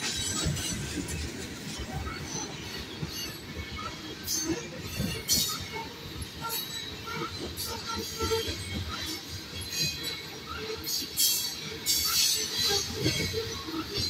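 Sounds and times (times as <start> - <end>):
shrill metallic squeals: 0.0 - 14.0
train wheels rumbling on rails: 0.0 - 14.0.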